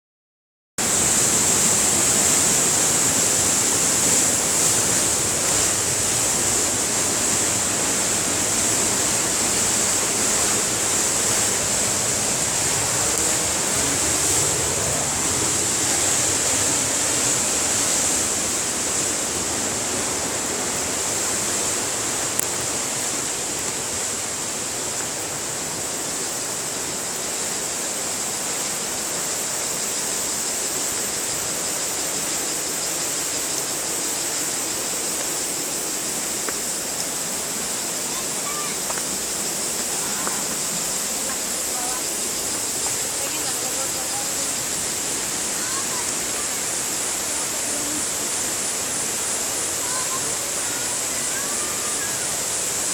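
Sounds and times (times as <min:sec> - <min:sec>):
waterfall roaring: 0:00.8 - 0:52.9.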